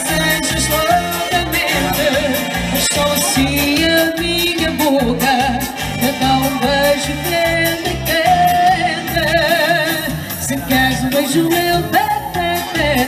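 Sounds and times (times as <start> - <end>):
steady bass beat: 0.0 - 13.0
wavering melody with vibrato: 0.0 - 13.0.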